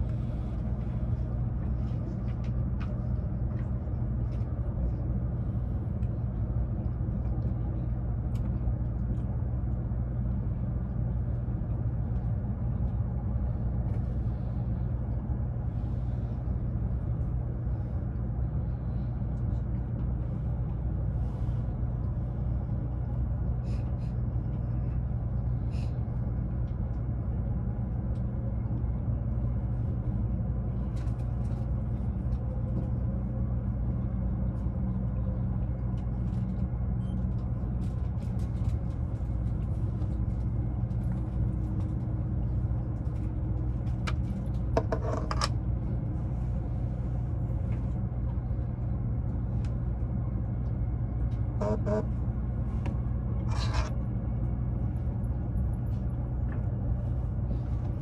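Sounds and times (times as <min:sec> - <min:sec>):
train cabin rumble and hum: 0:00.0 - 0:58.0.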